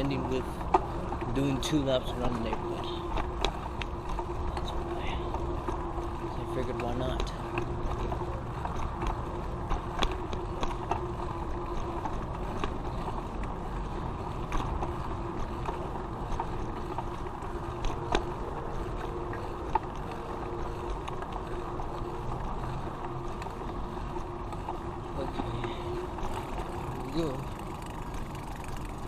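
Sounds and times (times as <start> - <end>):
bicycle rolling on pavement: 0.0 - 29.0
bike clicks and rattles: 0.0 - 29.0.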